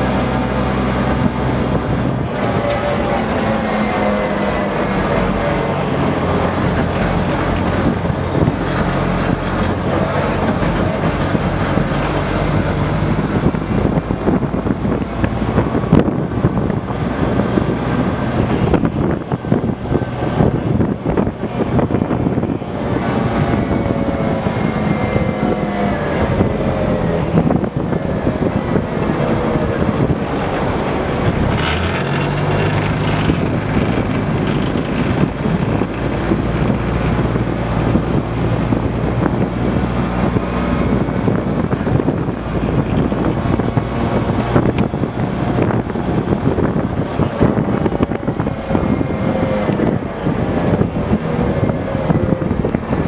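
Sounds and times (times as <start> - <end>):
armoured vehicle diesel engine running: 0.0 - 53.0
road noise: 0.0 - 53.0.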